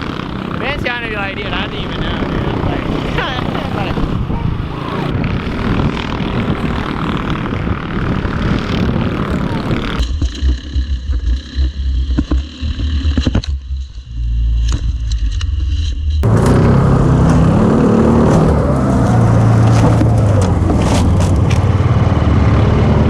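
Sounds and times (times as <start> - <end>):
off-road race vehicle engines: 0.0 - 23.0
steady whine: 0.0 - 23.0.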